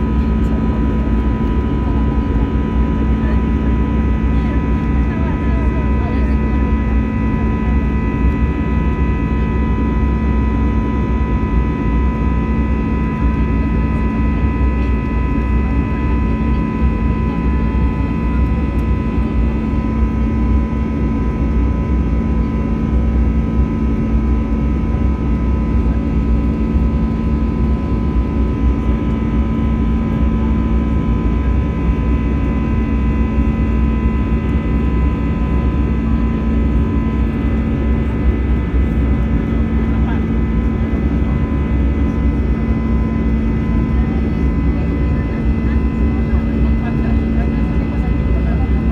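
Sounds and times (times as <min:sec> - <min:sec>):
constant whining tones: 0:00.0 - 0:48.9
jet engine cabin noise: 0:00.0 - 0:48.9.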